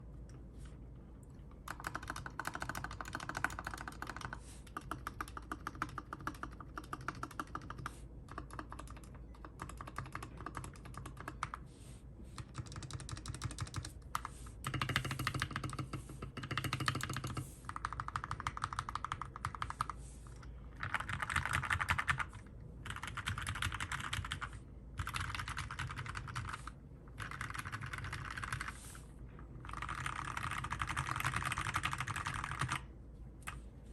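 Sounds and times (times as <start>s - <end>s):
fast typing on mechanical keyboard: 1.6s - 11.6s, 12.4s - 20.0s, 20.7s - 28.8s, 29.6s - 32.9s.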